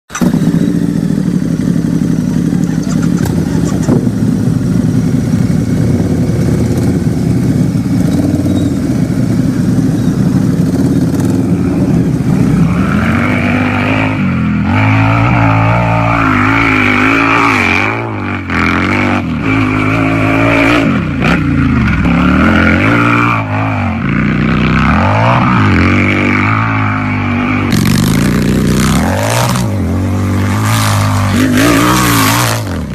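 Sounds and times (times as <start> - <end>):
motorcycle engine idling and revving: 0.0 - 32.9.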